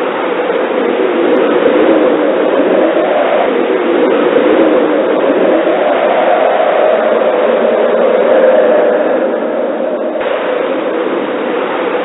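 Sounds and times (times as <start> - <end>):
blizzard wind blowing: 0.0 - 12.0.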